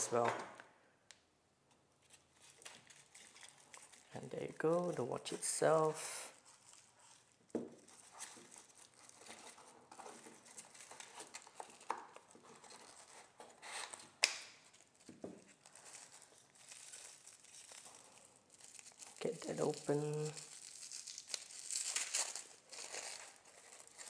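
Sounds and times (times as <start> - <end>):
packaging rustling and crinkling: 2.0 - 24.0.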